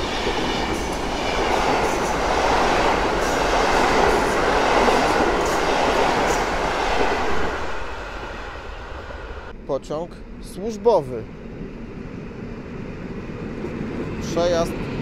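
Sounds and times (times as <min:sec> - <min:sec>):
train wheels rushing on rail: 0:00.0 - 0:09.5, 0:10.4 - 0:15.0.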